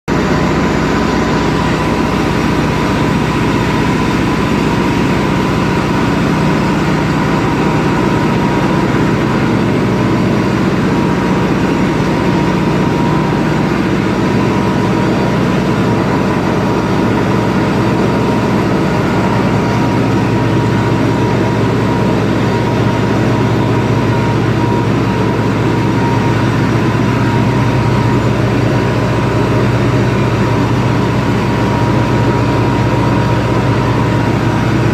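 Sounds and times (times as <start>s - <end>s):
heavy diesel machinery running: 0.1s - 34.9s.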